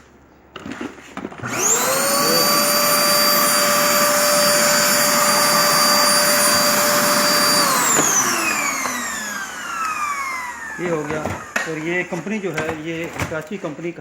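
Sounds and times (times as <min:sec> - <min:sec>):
vacuum cleaner motor whining: 0:01.4 - 0:12.8.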